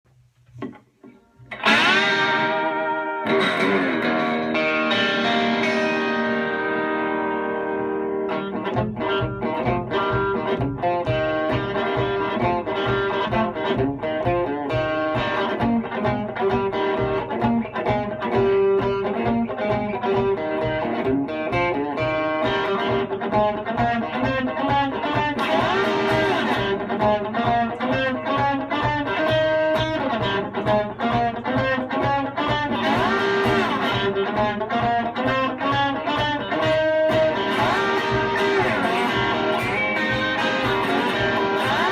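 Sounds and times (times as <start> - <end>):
instrumental guitar music: 0.4 - 41.9.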